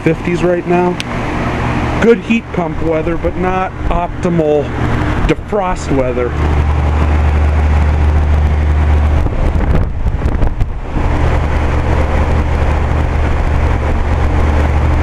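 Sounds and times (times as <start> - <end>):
compressor hum: 0.0 - 15.0
fan air rush: 0.0 - 15.0.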